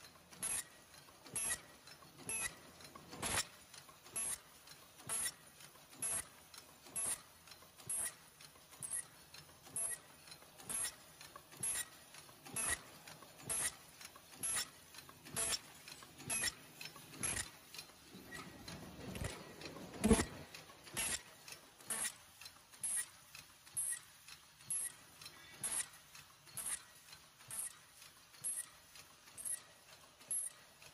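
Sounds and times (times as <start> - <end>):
machine mechanism clacking: 0.0 - 30.9.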